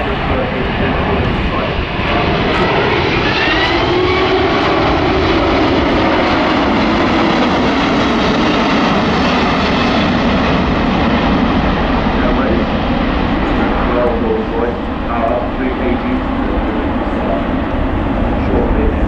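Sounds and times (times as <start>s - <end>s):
jet engines roaring overhead: 0.0s - 19.0s
turbine whine rising: 0.0s - 19.0s.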